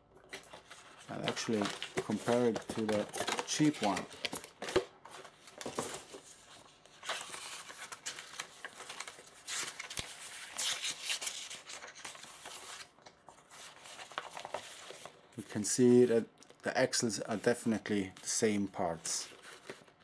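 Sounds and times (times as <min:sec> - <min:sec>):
paper and plastic rustling: 0:00.3 - 0:16.1, 0:17.2 - 0:20.0.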